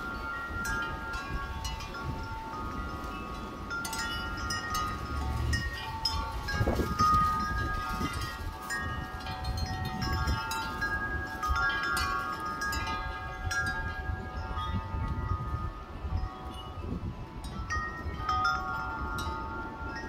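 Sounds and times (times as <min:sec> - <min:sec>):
wind chimes ringing: 0:00.0 - 0:20.0
wind rumble on microphone: 0:00.0 - 0:20.0.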